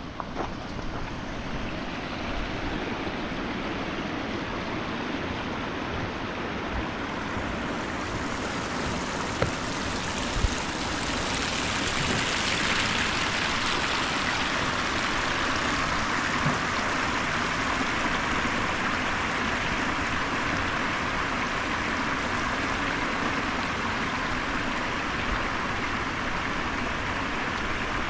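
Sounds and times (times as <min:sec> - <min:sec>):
rushing stream water: 0:00.0 - 0:28.0.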